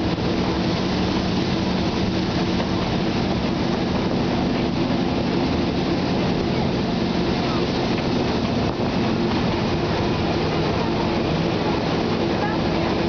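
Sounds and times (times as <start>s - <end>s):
train engine hum: 0.0s - 13.0s.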